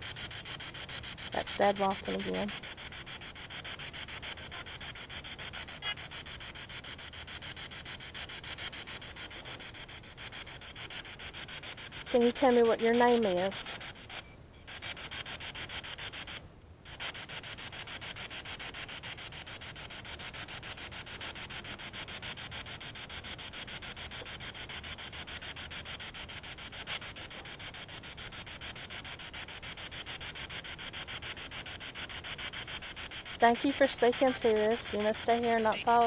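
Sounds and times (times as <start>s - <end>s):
pulsing radio static: 0.0s - 36.0s.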